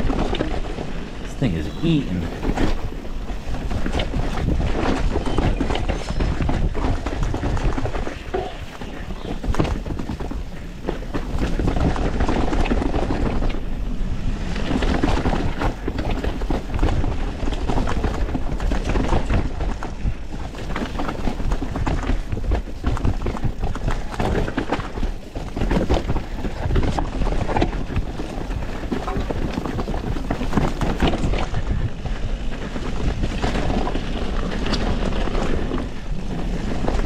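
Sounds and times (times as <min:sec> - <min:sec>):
bike tyres rumbling over rocks: 0:00.0 - 0:01.3, 0:02.3 - 0:37.0
bike knocking and rattling: 0:02.4 - 0:37.0.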